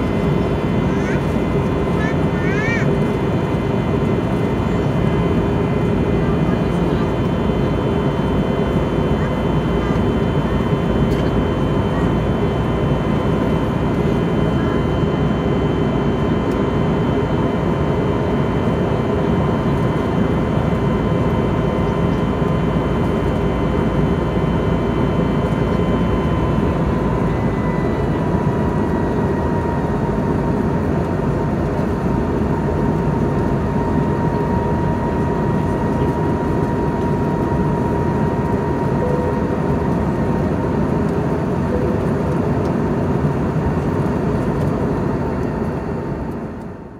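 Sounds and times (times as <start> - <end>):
jet engine rush in cabin: 0.0 - 46.9
thin high engine whine: 0.0 - 46.9.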